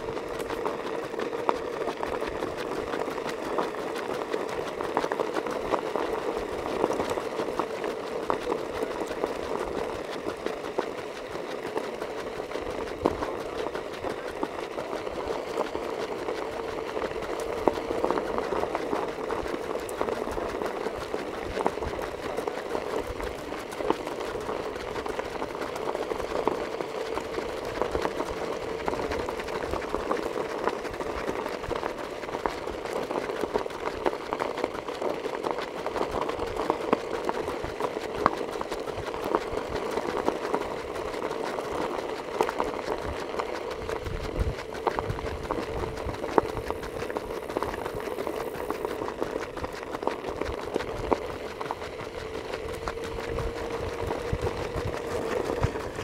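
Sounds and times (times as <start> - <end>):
vehicle engine running: 0.0 - 56.0
tyres crackling on gravel: 0.1 - 56.0.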